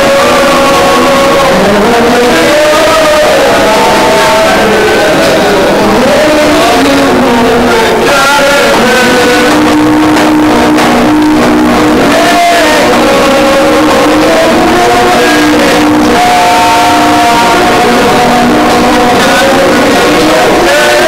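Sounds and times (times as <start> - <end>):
crowd noise: 0.0 - 21.0
men singing together: 0.0 - 21.0.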